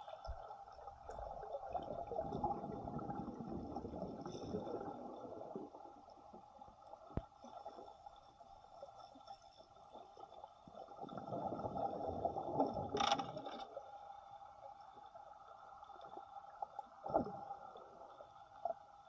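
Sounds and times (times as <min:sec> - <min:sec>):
water sloshing and gurgling: 0:00.0 - 0:19.0.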